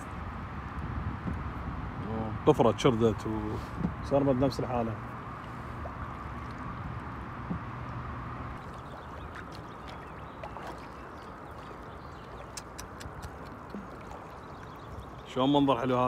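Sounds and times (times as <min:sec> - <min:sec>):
low steady hum: 0:00.0 - 0:15.4
water lapping against boat hull: 0:00.0 - 0:16.0.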